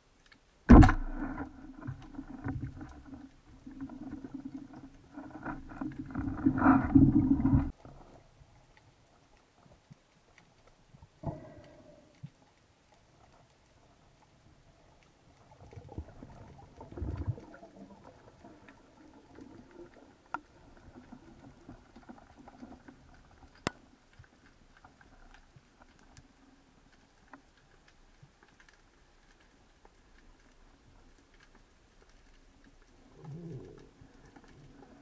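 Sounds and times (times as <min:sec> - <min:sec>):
underwater water wash: 0:00.7 - 0:35.0.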